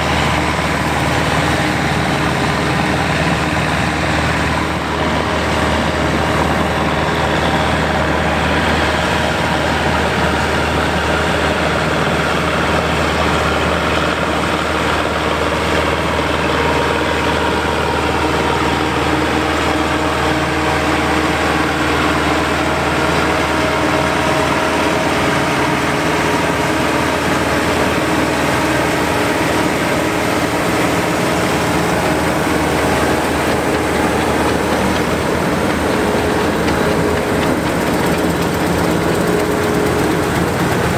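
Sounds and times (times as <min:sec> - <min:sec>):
combine threshing machinery: 0:00.0 - 0:40.9
tractor engine drone: 0:00.0 - 0:40.9.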